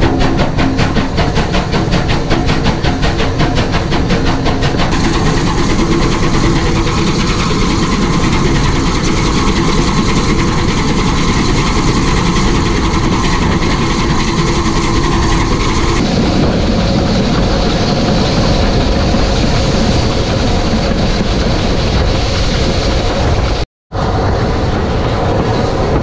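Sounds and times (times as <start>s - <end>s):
steam locomotive chuffing: 0.0s - 26.0s
train running rush: 0.0s - 26.0s.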